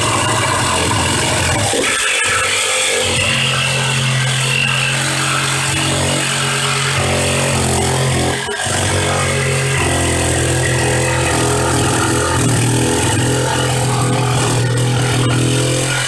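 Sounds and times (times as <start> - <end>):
jigsaw cutting wood: 0.0 - 16.0.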